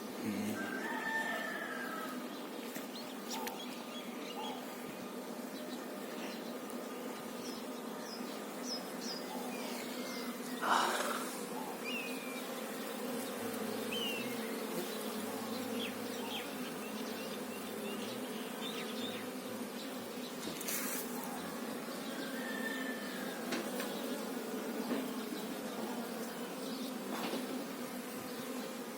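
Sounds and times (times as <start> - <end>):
honeybees humming: 0.0 - 28.9.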